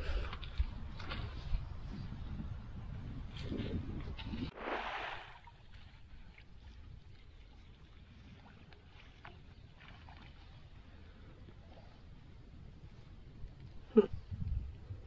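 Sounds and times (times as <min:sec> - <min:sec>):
low water rumble: 0:00.0 - 0:15.0.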